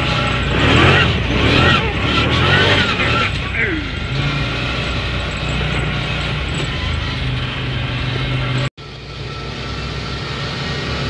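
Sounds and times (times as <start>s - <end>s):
buggy engine running: 0.0s - 11.0s
wind and road noise: 0.0s - 11.0s.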